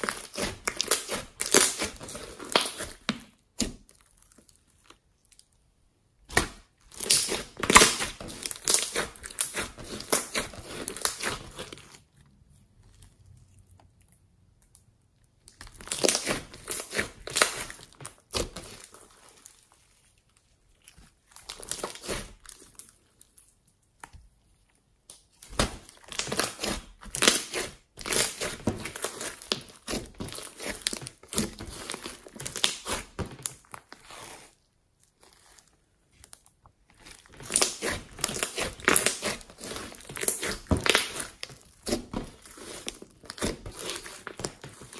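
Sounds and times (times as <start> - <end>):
slime crackling and popping: 0.0 - 5.6, 6.2 - 14.0, 14.6 - 19.8, 20.9 - 24.1, 25.0 - 44.9.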